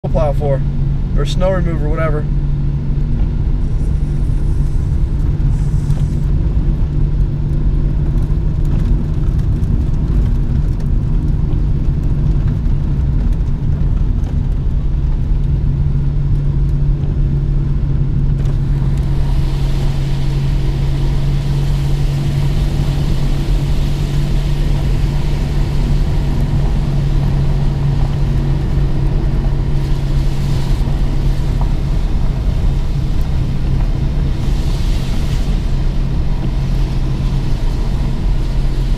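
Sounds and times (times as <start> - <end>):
car driving on wet road: 0.0 - 38.9
engine humming: 0.0 - 38.9
rain and wet tyres hissing: 0.0 - 38.9.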